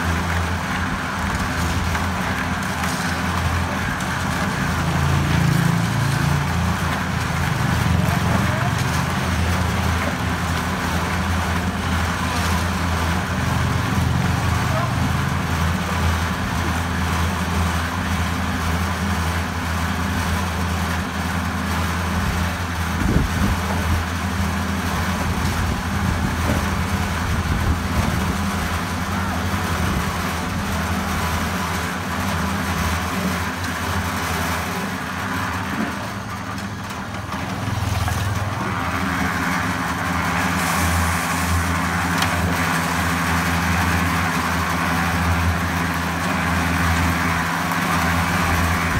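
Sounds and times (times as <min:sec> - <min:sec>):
concrete mixer running: 0:00.0 - 0:48.9.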